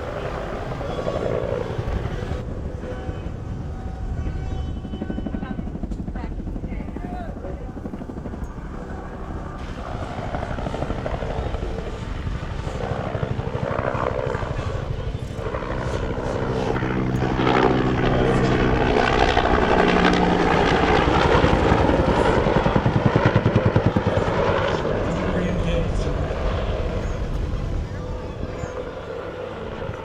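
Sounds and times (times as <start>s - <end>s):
helicopter flying by: 0.0s - 30.0s.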